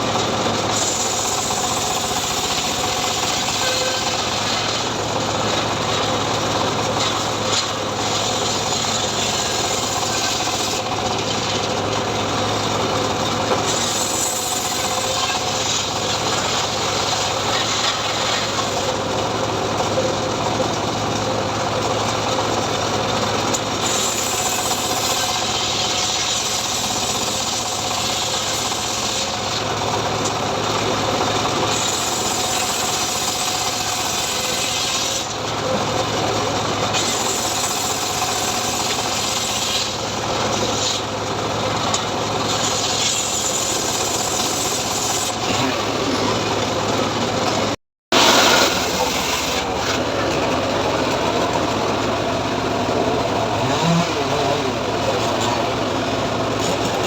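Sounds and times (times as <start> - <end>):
chainsaw cutting wood: 0.0 - 57.0
chainsaw engine hum: 0.0 - 57.0.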